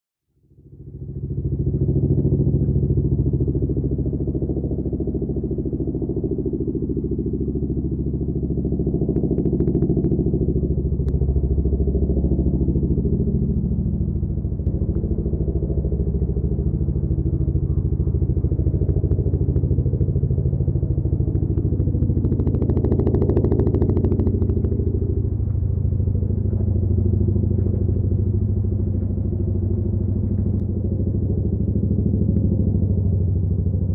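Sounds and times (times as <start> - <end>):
helicopter rotors beating: 0.8 - 33.9.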